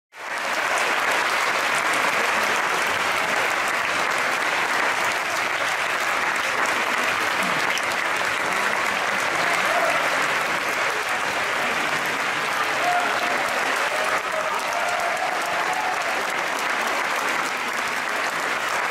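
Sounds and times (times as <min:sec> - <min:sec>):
audience applauding: 0:00.2 - 0:18.9.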